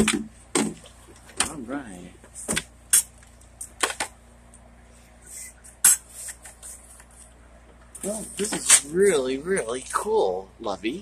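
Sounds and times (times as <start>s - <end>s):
low hum of train car: 0.0s - 11.0s.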